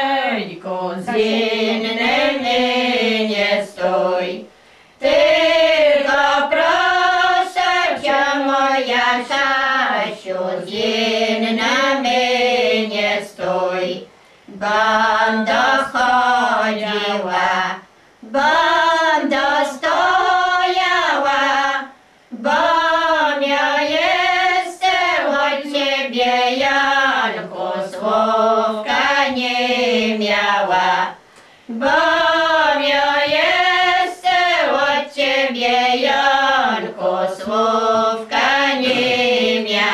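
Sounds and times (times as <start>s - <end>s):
women singing unaccompanied: 0.0s - 39.9s.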